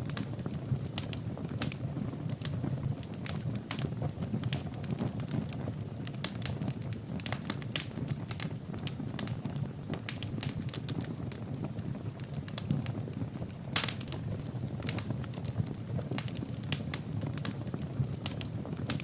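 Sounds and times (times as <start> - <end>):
fire burning with low rumble: 0.0 - 19.0
logs crackling and popping: 0.0 - 19.0.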